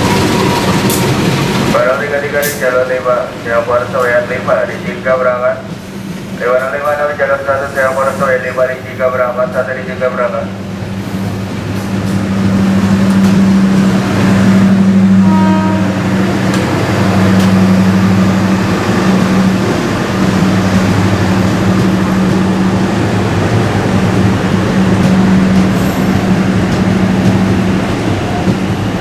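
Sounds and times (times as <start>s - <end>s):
rail noise: 0.0s - 29.0s
train low hum: 0.0s - 29.0s.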